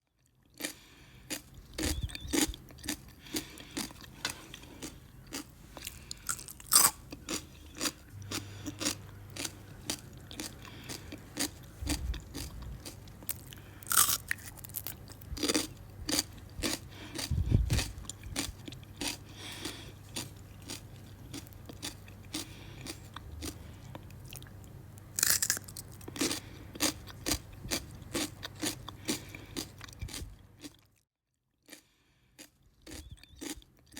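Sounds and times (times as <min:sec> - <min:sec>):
faint low hum: 0:00.2 - 0:30.9
person chewing crunchy fruit: 0:00.2 - 0:31.0, 0:31.6 - 0:33.9.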